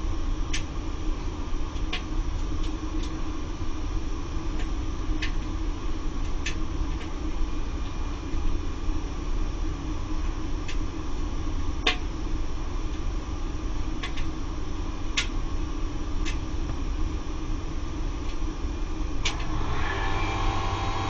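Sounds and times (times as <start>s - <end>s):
circulation pump humming: 0.0s - 21.0s.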